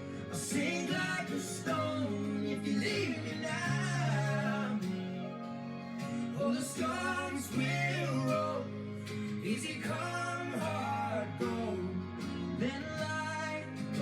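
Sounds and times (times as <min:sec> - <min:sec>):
country song with guitar and singing: 0:00.0 - 0:14.0.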